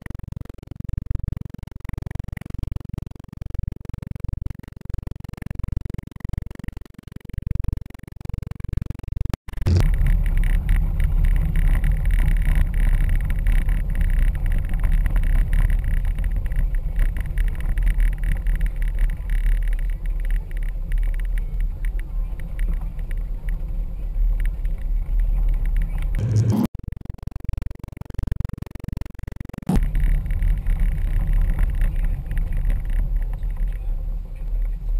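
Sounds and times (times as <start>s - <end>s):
engine and tyres rumbling: 0.0s - 34.9s.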